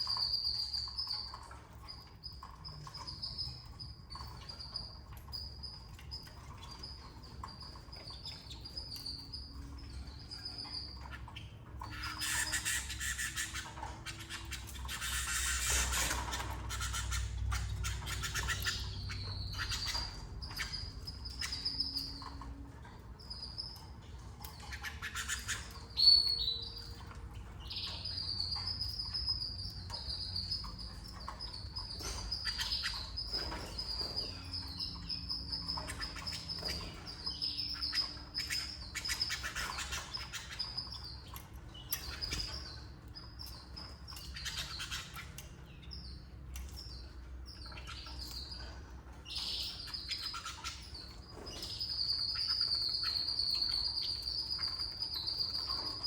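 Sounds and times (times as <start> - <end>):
canaries chirping and trilling: 0.0 - 56.0.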